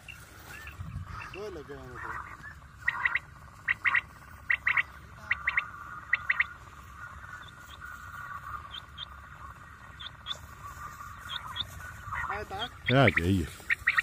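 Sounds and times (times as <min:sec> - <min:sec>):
quail calls through loudspeaker: 0:00.0 - 0:14.0.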